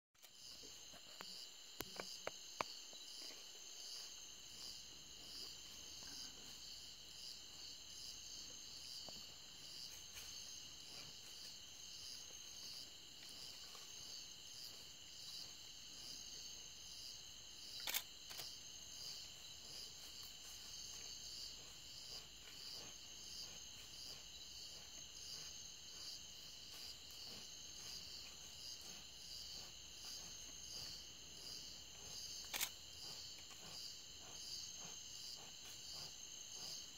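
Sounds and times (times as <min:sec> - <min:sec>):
crickets and insects trilling: 0:00.2 - 0:36.9.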